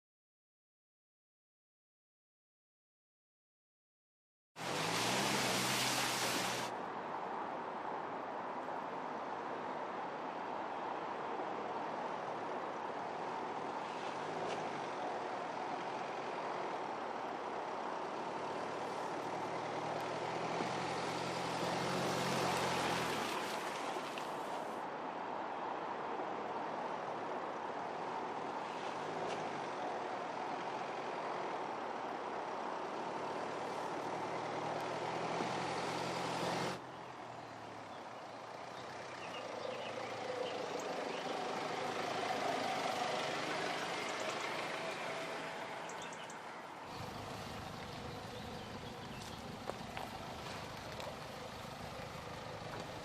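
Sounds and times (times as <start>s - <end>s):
car engine and road noise: 4.6s - 53.0s.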